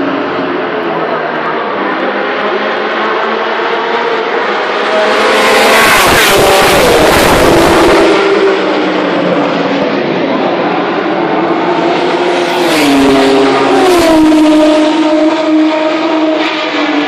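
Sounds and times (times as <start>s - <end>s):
race engines running: 0.0s - 17.0s.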